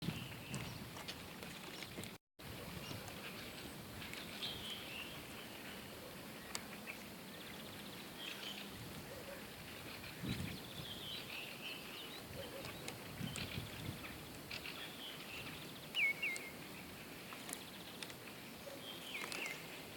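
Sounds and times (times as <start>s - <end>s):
birds chirping: 0.0s - 19.9s
outdoor background noise: 0.0s - 19.9s.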